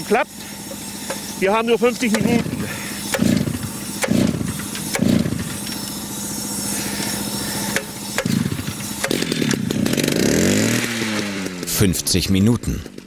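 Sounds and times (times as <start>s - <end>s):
cut-off saw idling: 0.0s - 13.0s
saw throttle bursts: 0.0s - 13.0s.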